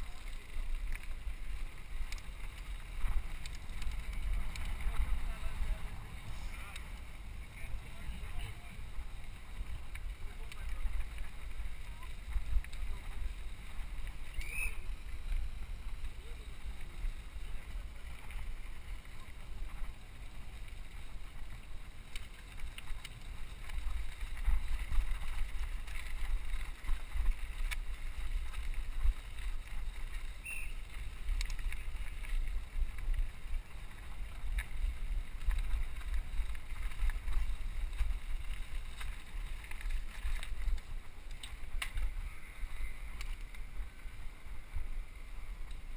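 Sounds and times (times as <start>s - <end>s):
bike clicks and rattles: 0.0s - 45.9s
tyres rumbling on gravel: 0.0s - 45.9s.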